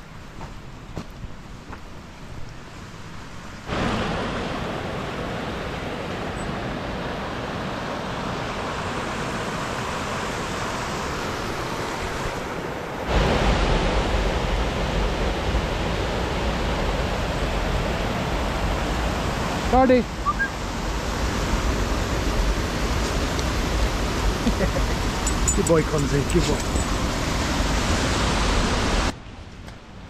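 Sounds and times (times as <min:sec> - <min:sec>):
stream cascading down waterfall: 0:02.7 - 0:30.0.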